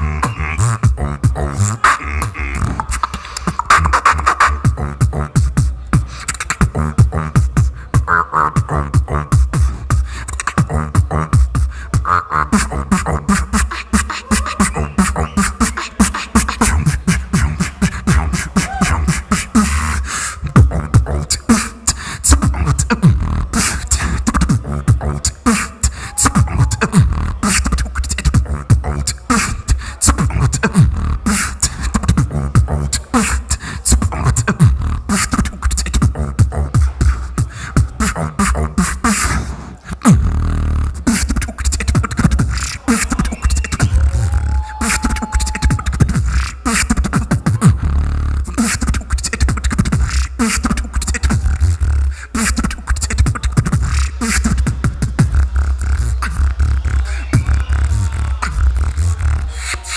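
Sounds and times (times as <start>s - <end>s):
beatboxing into a microphone: 0.0s - 59.9s.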